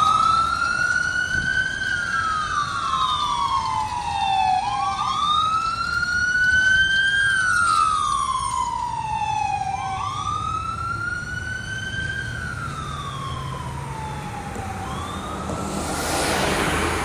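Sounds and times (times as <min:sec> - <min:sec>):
fire engine siren wailing: 0:00.0 - 0:17.0.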